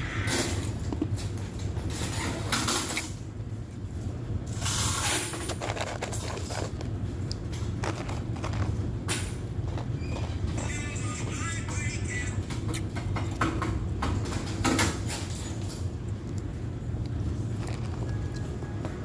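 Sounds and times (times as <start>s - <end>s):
washers and dryers humming: 0.0s - 19.0s.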